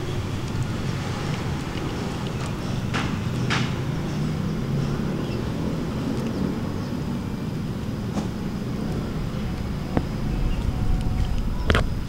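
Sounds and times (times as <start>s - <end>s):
cat crunching kibble: 0.0s - 12.0s
low background rumble: 0.0s - 12.0s.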